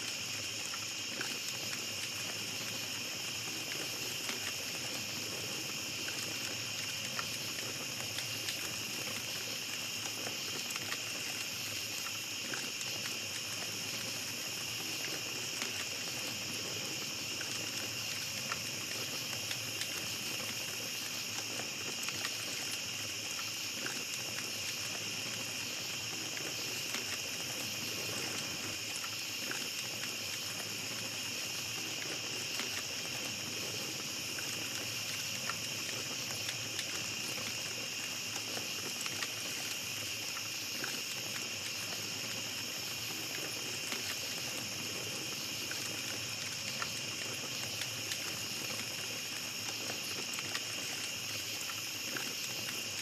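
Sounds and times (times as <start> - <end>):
campfire crackling and popping: 0.0 - 53.0
night insects chirping: 0.0 - 53.0.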